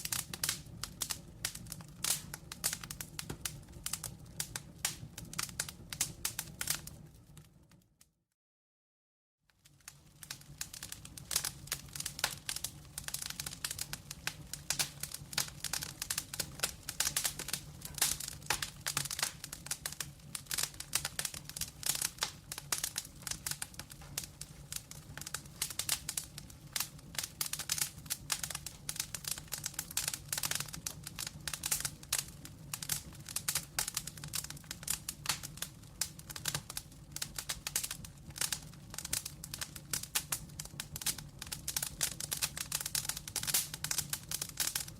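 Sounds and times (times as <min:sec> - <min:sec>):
logs crackling in fireplace: 0:00.0 - 0:08.0, 0:09.5 - 0:44.9.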